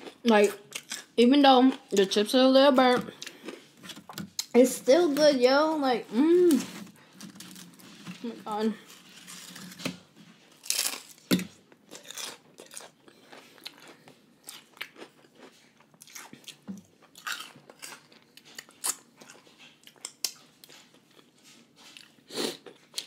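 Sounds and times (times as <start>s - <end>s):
person chewing crunchy chips: 0.0s - 2.0s, 3.1s - 23.0s.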